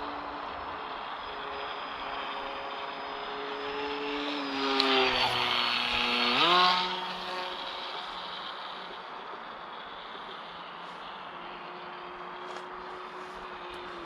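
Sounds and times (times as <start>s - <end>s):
rc plane motor buzzing: 0.0s - 14.0s.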